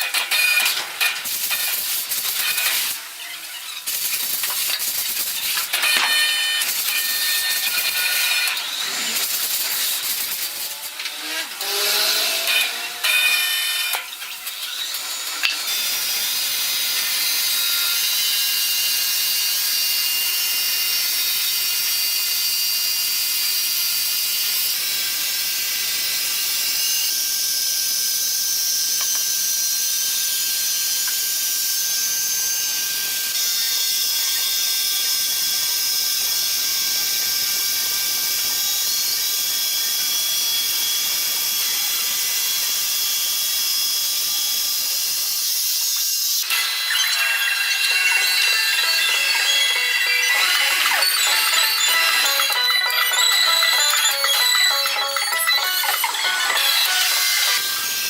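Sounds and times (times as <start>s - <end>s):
power saw whining: 0.0s - 58.0s.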